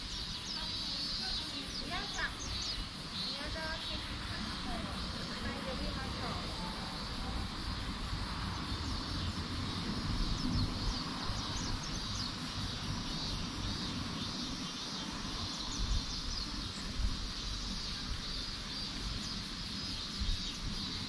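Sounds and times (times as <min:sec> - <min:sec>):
steady high hiss: 0:00.0 - 0:21.0
wind rumbling on microphone: 0:00.0 - 0:21.0.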